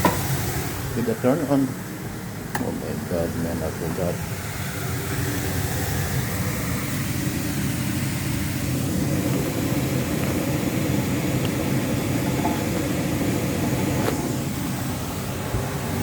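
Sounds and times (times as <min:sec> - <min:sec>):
low rumbling machine hum: 0:00.0 - 0:16.0.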